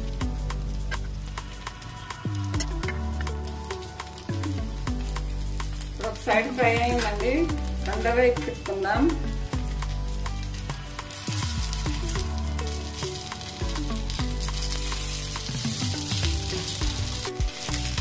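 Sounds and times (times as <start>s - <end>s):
oil sizzling in a pan: 0.0s - 18.0s.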